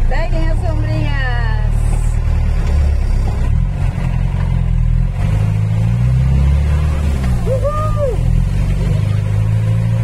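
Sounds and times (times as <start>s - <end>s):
car engine rumble from inside: 0.0s - 10.0s.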